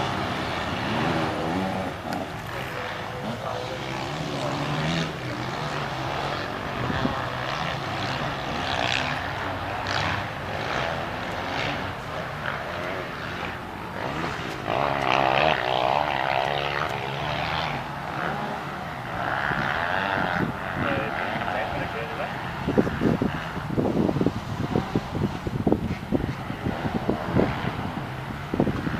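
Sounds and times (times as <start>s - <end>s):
motorcycle engines revving: 0.0s - 28.9s.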